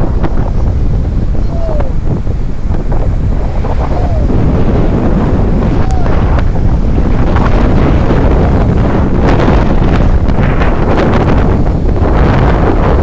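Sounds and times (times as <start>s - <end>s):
surf breaking on shore: 0.0s - 13.0s
wind buffeting microphone: 0.0s - 13.0s.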